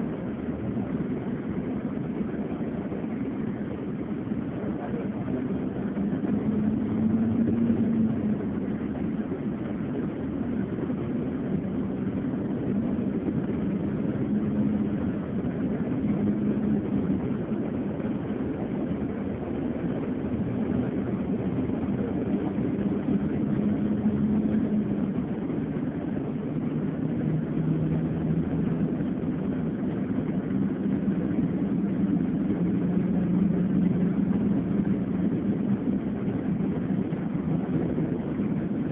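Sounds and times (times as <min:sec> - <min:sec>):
bus engine and road noise: 0:00.0 - 0:38.9.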